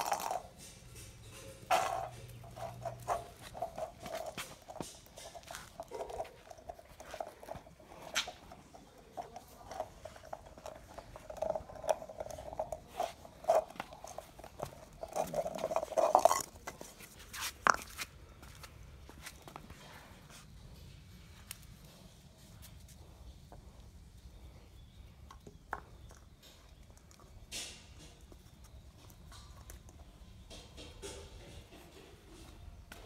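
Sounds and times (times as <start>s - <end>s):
puppies scuffling and chewing: 0.0s - 33.0s.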